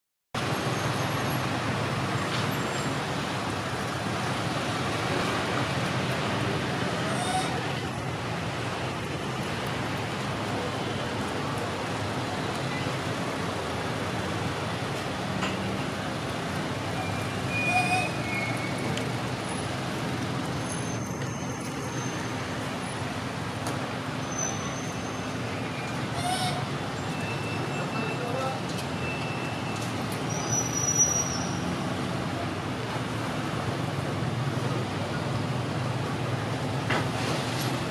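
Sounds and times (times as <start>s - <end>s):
distant traffic hum: 0.4s - 37.9s.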